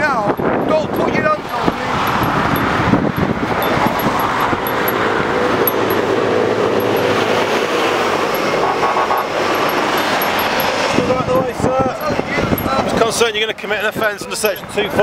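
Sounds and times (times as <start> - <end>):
vehicle engine hum: 0.0 - 13.6
road traffic passing: 0.0 - 15.0.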